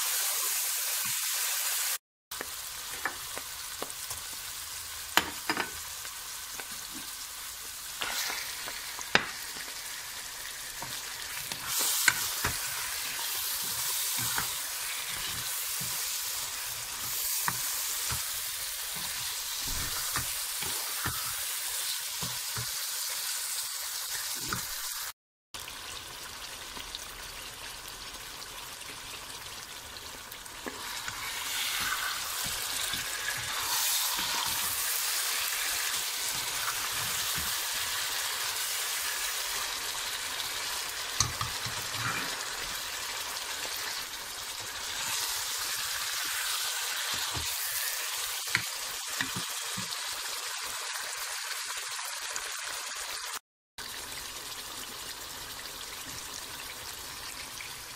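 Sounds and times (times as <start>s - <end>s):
curry sizzling in oil: 0.0s - 57.9s.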